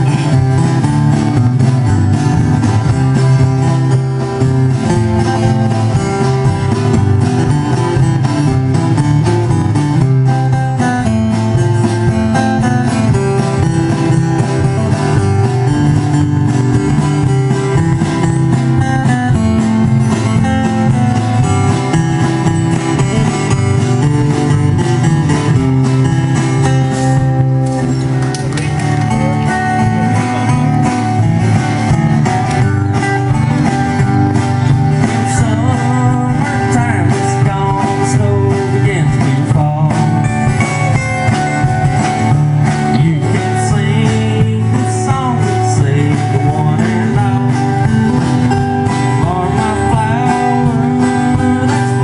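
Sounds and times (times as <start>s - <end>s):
acoustic guitars strummed: 0.0s - 52.0s
drums: 0.0s - 52.0s
upright bass: 0.0s - 52.0s.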